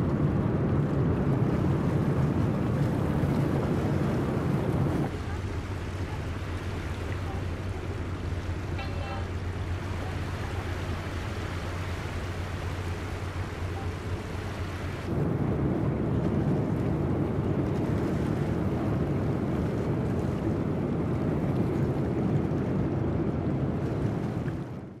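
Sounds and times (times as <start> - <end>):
ship engines rumbling: 0.0 - 25.0
water wash: 0.0 - 25.0.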